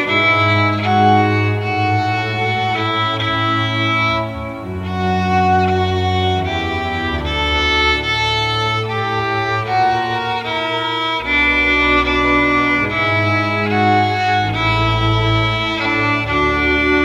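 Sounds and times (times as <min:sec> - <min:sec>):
violins and cellos playing slowly: 0:00.0 - 0:17.0.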